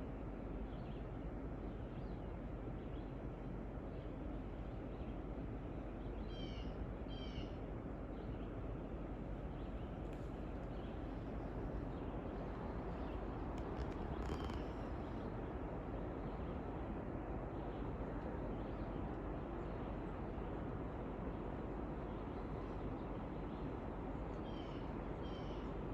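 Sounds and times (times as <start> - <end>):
outdoor background hiss: 0.0 - 25.9.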